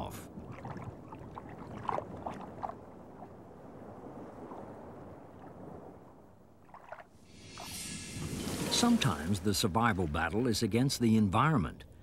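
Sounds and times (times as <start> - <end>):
underwater rushing: 0.0 - 10.8.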